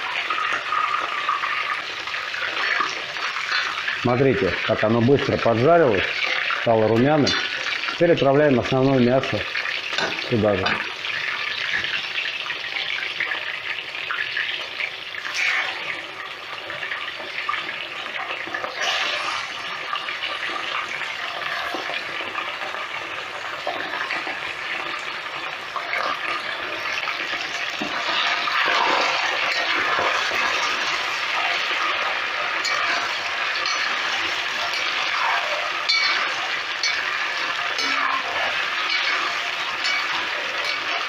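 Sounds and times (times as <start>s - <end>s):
meat sizzling in hot oil: 0.0s - 41.0s.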